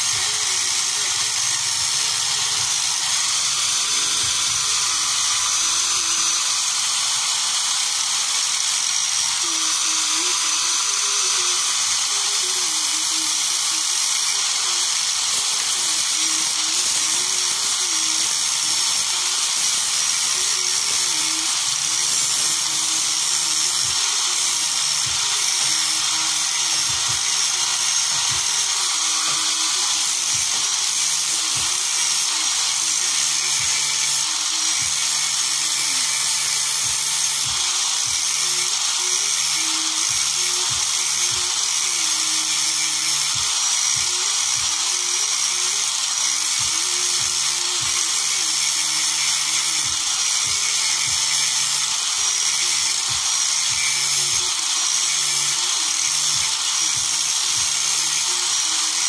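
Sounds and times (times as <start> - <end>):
angle grinder whining: 0.0 - 59.0.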